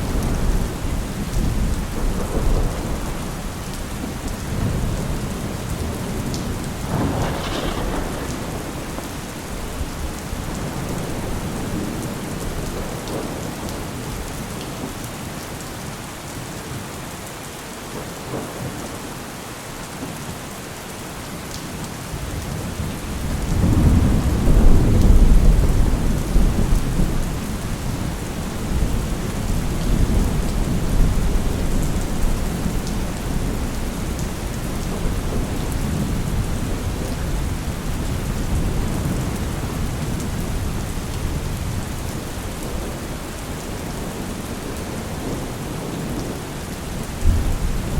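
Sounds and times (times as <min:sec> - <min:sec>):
thunder crack and rumble: 0:00.0 - 0:14.9, 0:22.2 - 0:47.9
heavy rain: 0:00.0 - 0:47.9.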